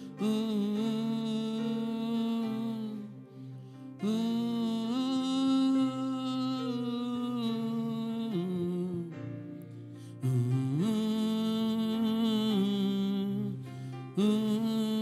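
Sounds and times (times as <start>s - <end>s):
person humming a slow melody: 0.0s - 9.6s, 10.2s - 15.0s.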